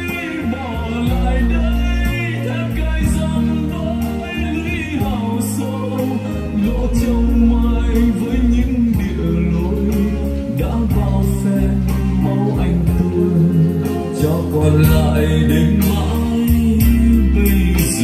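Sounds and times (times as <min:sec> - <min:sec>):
song with band over loudspeakers: 0:00.0 - 0:18.0.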